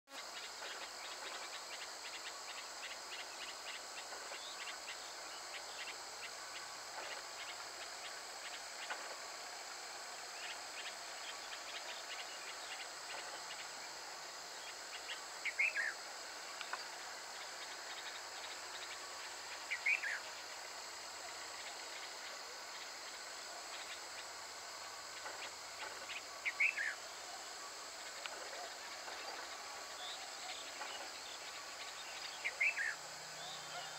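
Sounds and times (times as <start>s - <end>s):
high-pitched insect chirring: 0.1s - 33.9s.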